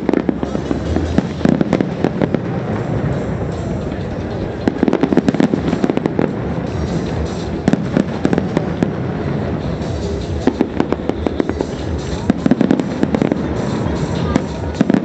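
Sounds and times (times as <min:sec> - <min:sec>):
background music: 0:00.0 - 0:15.0
fireworks popping: 0:00.0 - 0:15.0.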